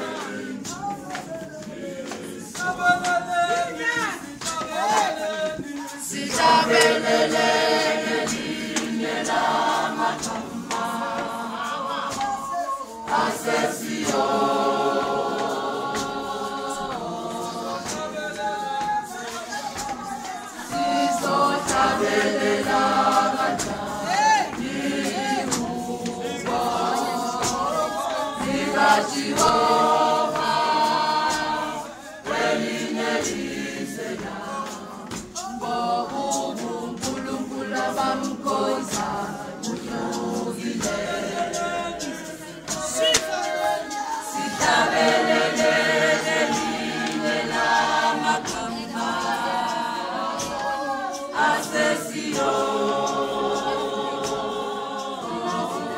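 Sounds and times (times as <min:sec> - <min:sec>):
choir singing call and response: 0:00.0 - 0:55.9.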